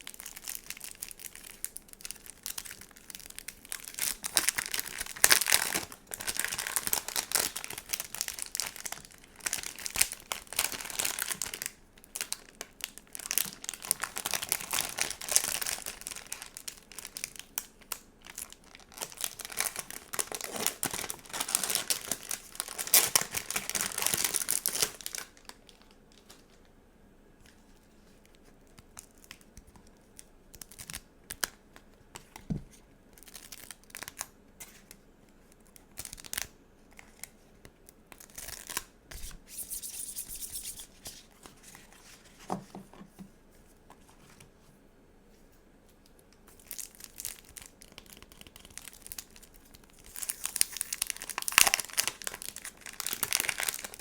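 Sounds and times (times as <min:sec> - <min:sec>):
plastic packaging crinkling and tearing: 0:00.0 - 0:26.7, 0:28.0 - 0:32.4, 0:33.2 - 0:42.6, 0:46.0 - 0:54.0.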